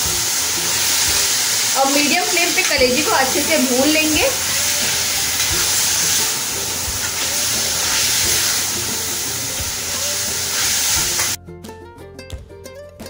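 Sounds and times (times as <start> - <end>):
meat sizzling in oil: 0.0 - 11.4
plucked-string background music: 0.0 - 13.0.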